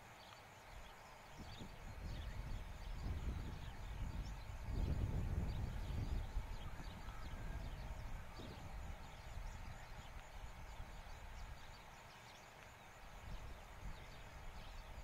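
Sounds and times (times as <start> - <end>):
wind rumbling on microphone: 0.8 - 12.1, 12.8 - 15.0.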